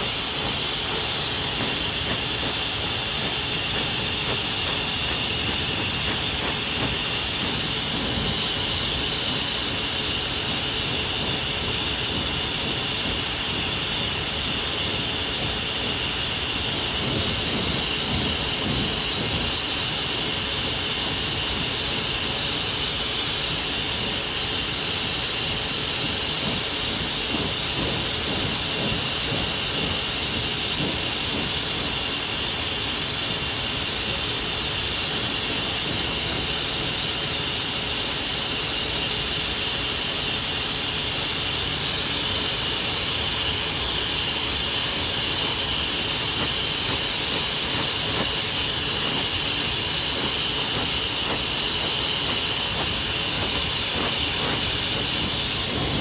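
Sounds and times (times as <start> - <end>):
blow dryer running: 0.0 - 56.0.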